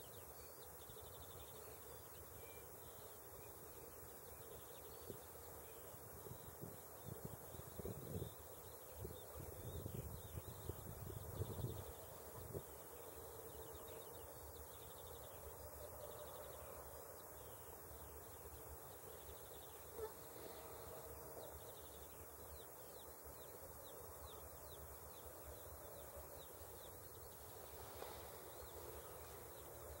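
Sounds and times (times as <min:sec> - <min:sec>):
faint outdoor background noise: 0:00.0 - 0:30.0.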